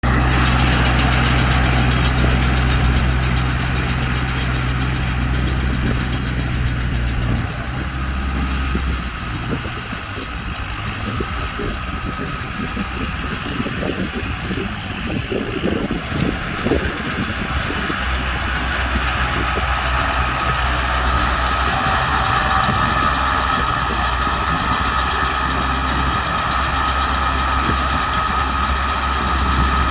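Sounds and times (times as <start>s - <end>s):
baler mechanical clatter: 0.0s - 29.9s
tractor engine hum: 0.0s - 29.9s.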